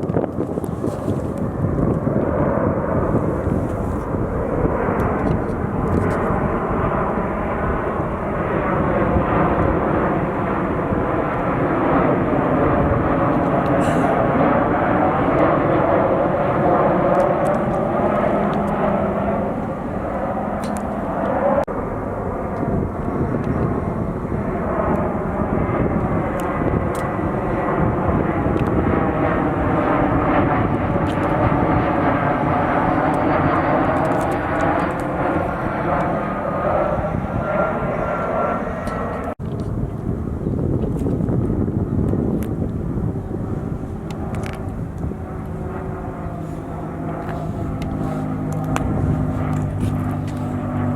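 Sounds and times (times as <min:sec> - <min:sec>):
jet airliner engines roaring: 0:00.0 - 0:50.9.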